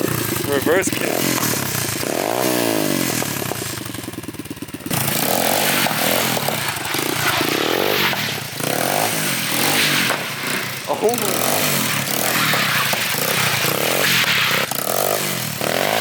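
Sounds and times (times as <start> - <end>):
small motorbike engine revving: 0.0 - 16.0.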